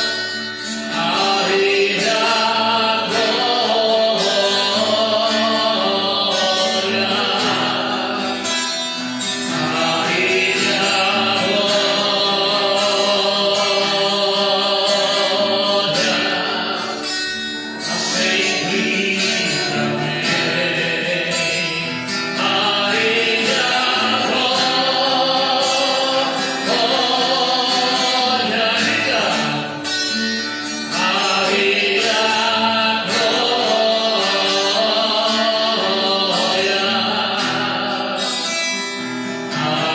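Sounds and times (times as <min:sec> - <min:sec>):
guitar accompaniment: 0:00.0 - 0:39.9
choir-like singing: 0:00.9 - 0:08.6, 0:09.4 - 0:29.9, 0:30.9 - 0:38.6, 0:39.5 - 0:39.9.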